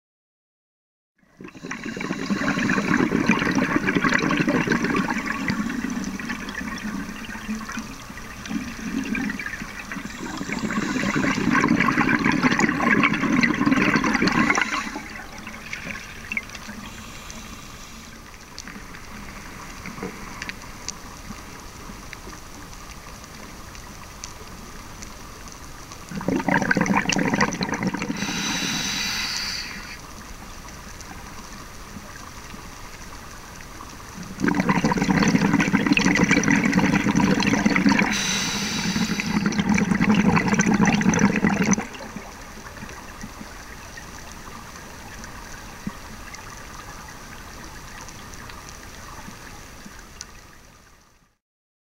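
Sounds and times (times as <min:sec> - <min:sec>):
regulator exhaled bubbles underwater: 0:01.2 - 0:21.6, 0:26.0 - 0:31.4, 0:34.0 - 0:50.0
steady underwater hiss: 0:01.2 - 0:51.3.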